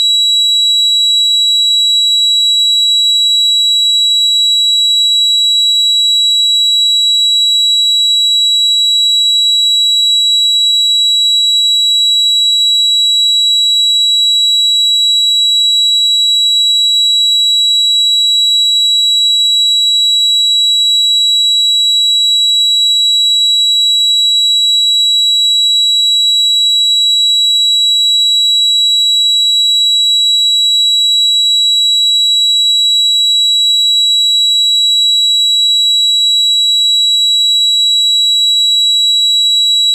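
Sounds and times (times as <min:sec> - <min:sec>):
high-pitched ringing tone: 0:00.0 - 0:39.9.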